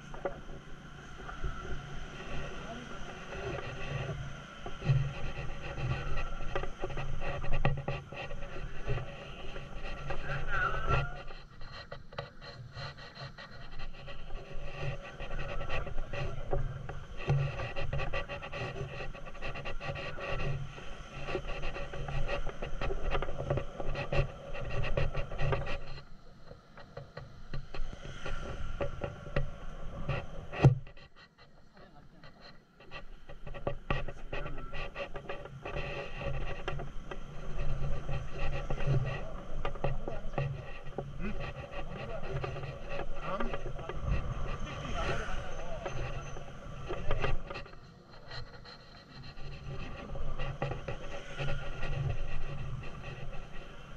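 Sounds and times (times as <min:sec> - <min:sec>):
road and wind noise: 0:00.0 - 0:31.5, 0:33.0 - 0:53.9.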